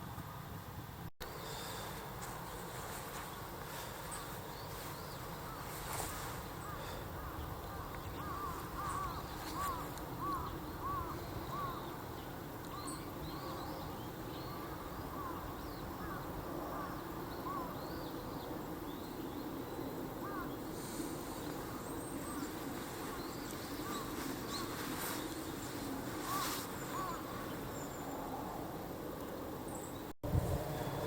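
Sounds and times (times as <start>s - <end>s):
birds chirping: 1.2s - 31.0s.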